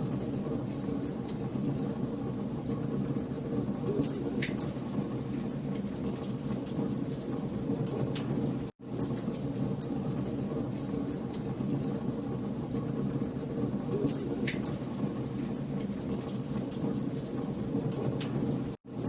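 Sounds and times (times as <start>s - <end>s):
rumble of flames: 0.0s - 18.8s.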